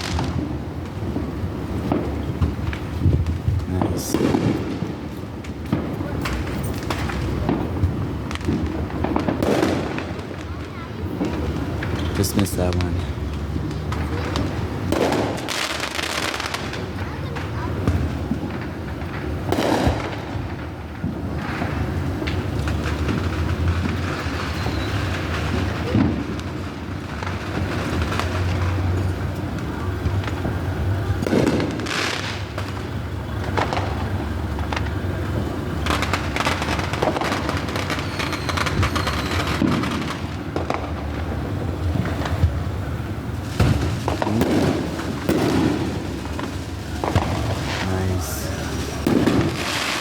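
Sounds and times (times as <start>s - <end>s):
fireworks bangs and crackling pops: 0.0s - 50.0s.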